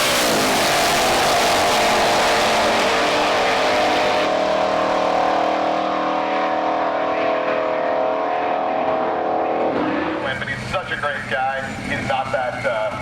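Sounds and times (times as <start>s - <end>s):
car engine at high revs: 0.0s - 10.9s.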